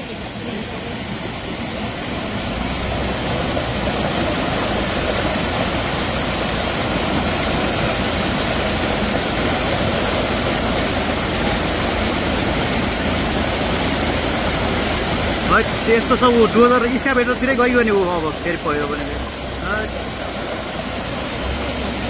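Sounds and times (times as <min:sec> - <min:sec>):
floodwater rushing across road: 0:00.0 - 0:22.0.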